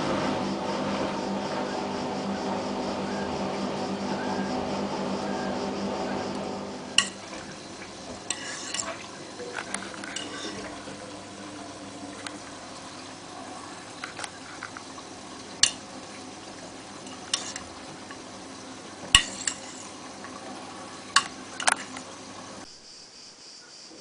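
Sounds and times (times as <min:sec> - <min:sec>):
washing machine drum humming: 0:00.0 - 0:22.7.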